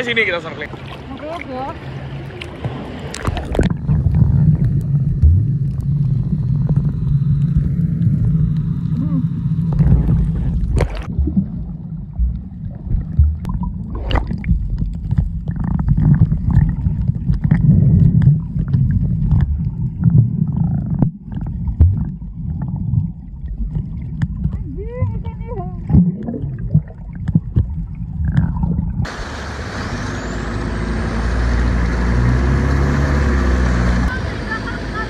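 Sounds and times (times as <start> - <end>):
water sloshing and gurgling: 0.0 - 30.2
boat engine rumbling: 0.0 - 35.0.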